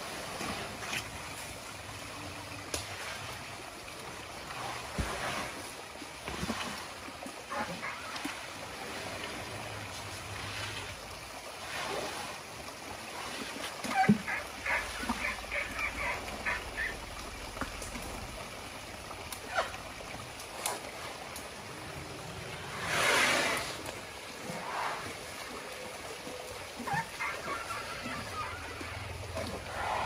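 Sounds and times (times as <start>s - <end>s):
elephants wading through water: 0.0s - 30.0s
splashes: 0.0s - 30.0s
stream trickling: 0.0s - 30.0s.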